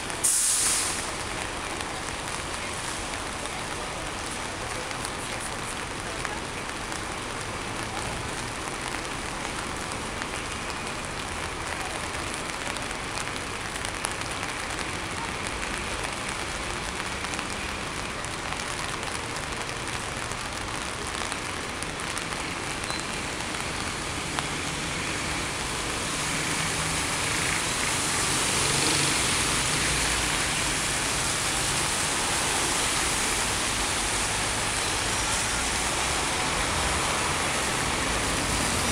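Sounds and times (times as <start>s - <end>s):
rain falling on street: 0.0s - 38.9s
traffic hiss on wet pavement: 0.0s - 38.9s.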